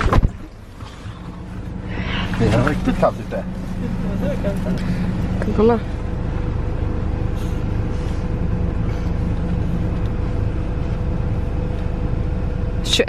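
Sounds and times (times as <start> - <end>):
vehicle engine idling: 0.3 - 13.0.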